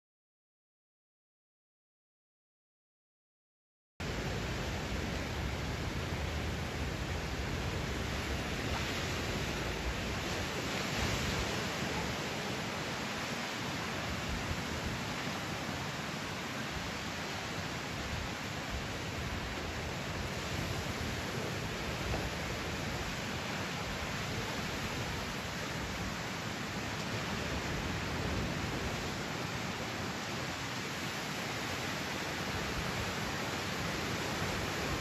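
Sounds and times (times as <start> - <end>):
surf washing onto beach: 4.0 - 35.0.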